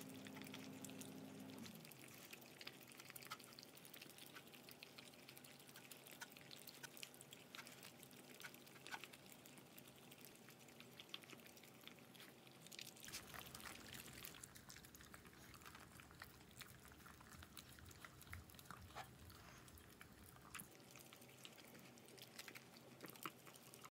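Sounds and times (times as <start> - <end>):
dogs chewing wetly: 0.0 - 23.9
dogs licking bowls: 0.0 - 23.9.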